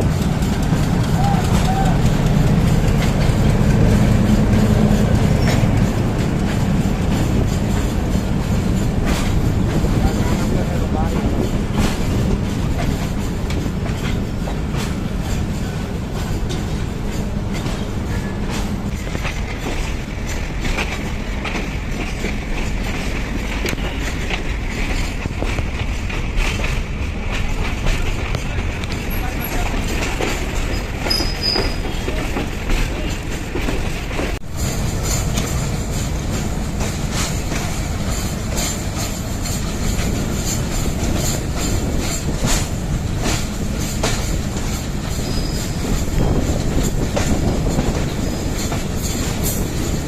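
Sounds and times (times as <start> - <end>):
train rumbling on rails: 0.0 - 50.0
wheels clicking over rail joints: 0.0 - 50.0.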